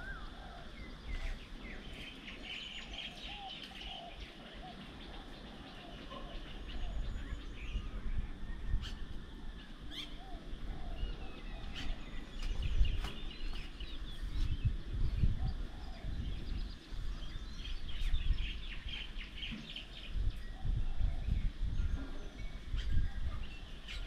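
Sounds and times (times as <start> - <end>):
birds chirping and calling: 0.0 - 24.0.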